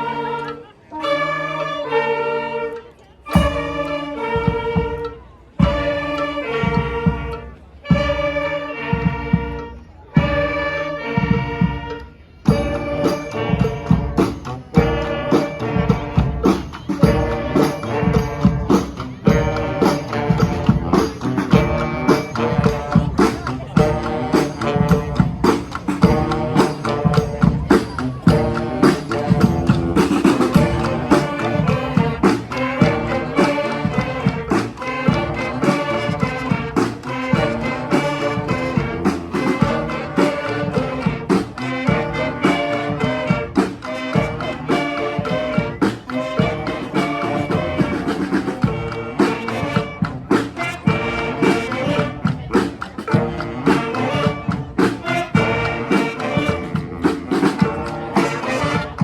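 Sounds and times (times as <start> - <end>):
brass band playing: 0.0 - 59.0
drums steady beat: 3.3 - 59.0.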